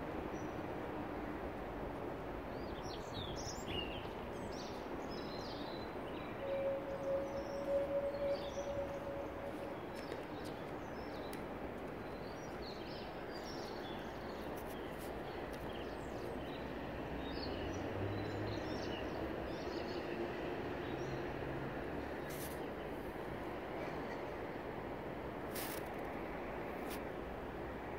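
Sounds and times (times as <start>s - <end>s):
outdoor background noise: 0.0s - 27.9s.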